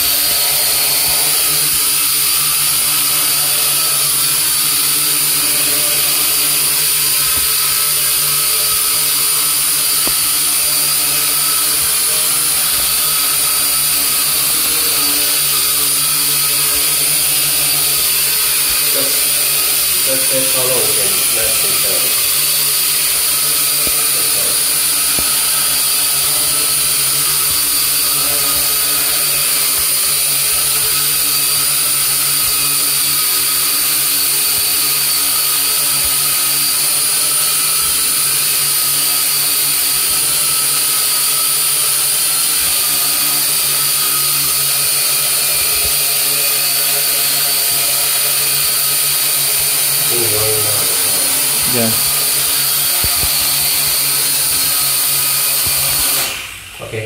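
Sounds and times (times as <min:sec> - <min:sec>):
toy quadcopter whine: 0:00.0 - 0:57.0.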